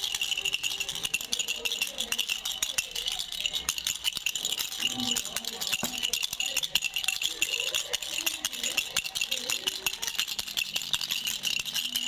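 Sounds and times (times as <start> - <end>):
baby rattle shaking: 0.0 - 12.0.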